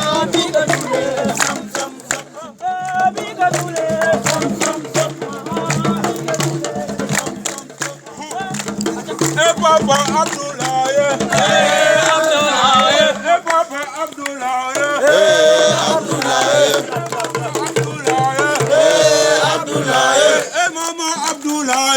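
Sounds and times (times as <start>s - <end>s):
sharp percussive beats: 0.0s - 21.9s
voices singing a chant: 0.0s - 21.9s.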